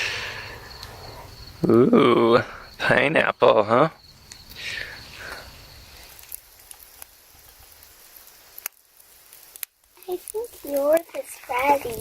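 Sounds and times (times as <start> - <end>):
faint steady outdoor hiss: 0.0 - 12.0.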